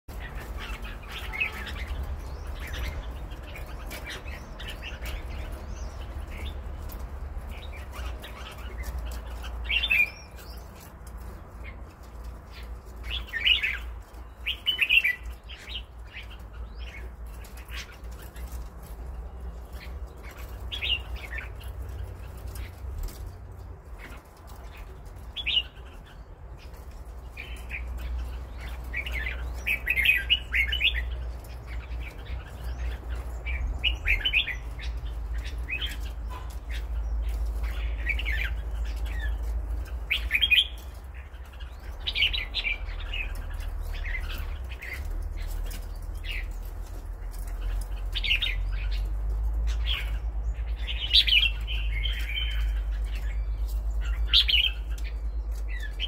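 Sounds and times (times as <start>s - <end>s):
bird singing warbled phrases: 0.1s - 56.0s.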